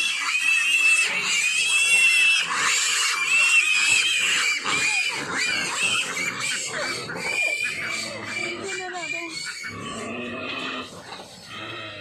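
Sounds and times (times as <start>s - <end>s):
piglets squealing: 0.0s - 12.0s.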